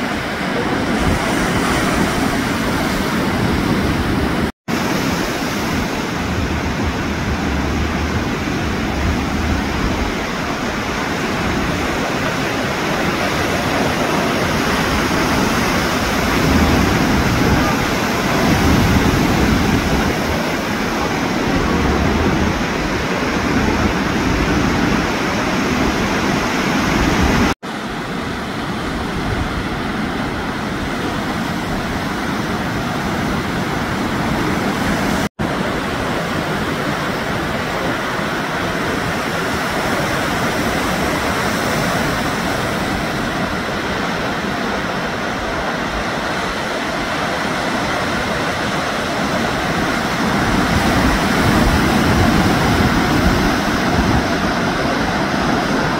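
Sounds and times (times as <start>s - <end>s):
ocean surf breaking: 0.0s - 55.9s.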